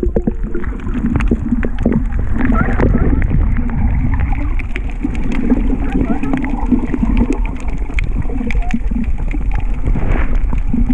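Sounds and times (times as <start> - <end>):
underwater rumble of moving water: 0.0 - 10.9.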